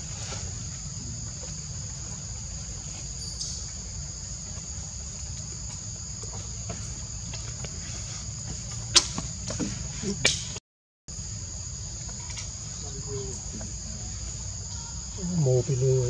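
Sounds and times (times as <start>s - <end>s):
forest insects droning: 0.0s - 16.0s.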